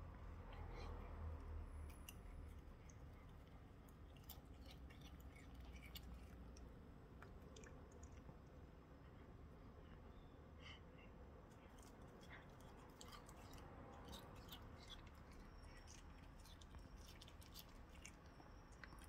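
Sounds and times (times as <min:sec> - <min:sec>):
low steady hum: 0:00.0 - 0:19.0
cat chewing grass: 0:00.1 - 0:09.2, 0:11.4 - 0:19.0.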